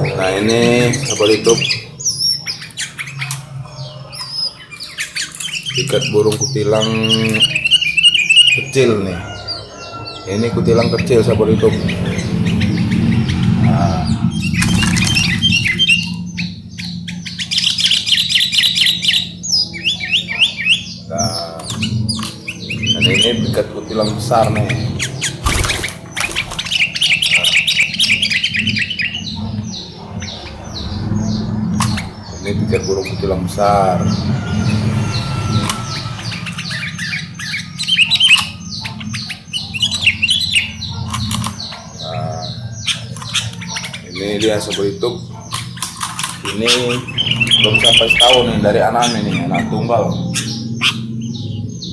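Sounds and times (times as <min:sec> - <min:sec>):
low steady hum: 0:00.0 - 0:44.6
bulbuls chirping and whistling: 0:00.0 - 0:51.9
harsh bird chattering calls: 0:00.0 - 0:51.9.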